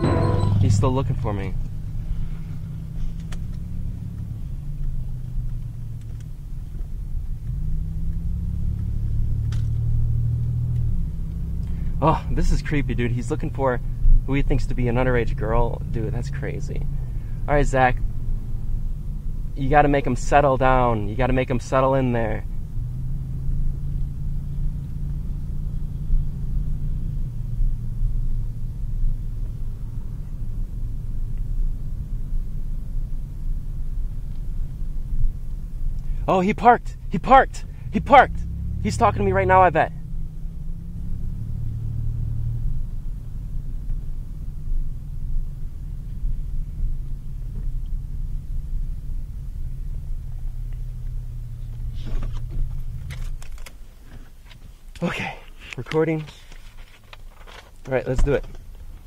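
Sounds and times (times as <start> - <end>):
car engine drone from inside: 0.0 - 59.0.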